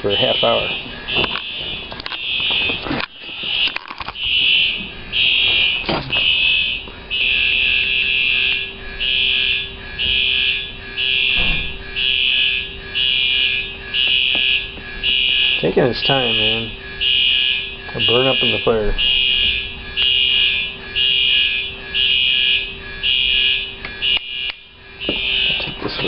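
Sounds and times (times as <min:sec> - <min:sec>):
fire alarm horn blasts: 0:00.0 - 0:26.0.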